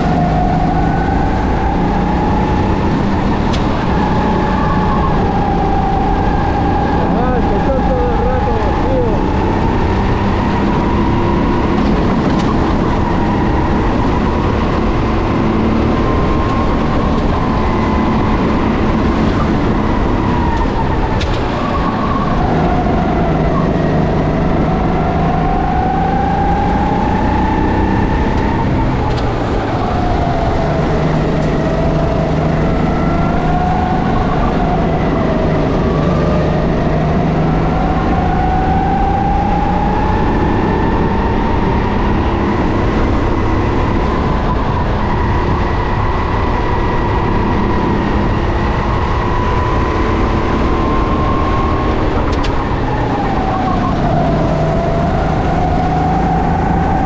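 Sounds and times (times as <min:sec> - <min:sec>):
racing kart engine revving: 0:00.0 - 0:57.0.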